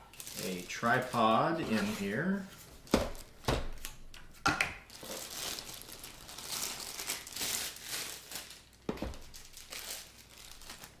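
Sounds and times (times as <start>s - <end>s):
plastic bag crinkling: 0.0s - 3.4s, 4.8s - 11.0s.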